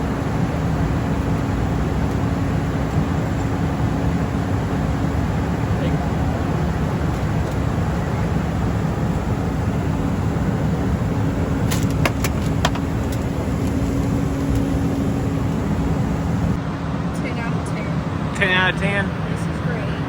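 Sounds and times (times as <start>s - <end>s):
jet cabin engine rumble: 0.0s - 16.6s
constant low hum: 0.0s - 18.3s.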